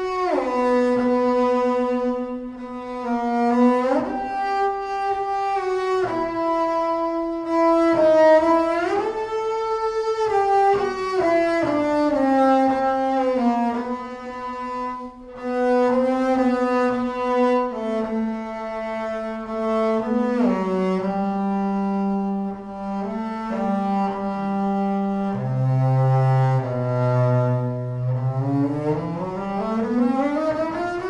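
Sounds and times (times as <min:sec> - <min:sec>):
bowed double bass melody: 0:00.0 - 0:31.0.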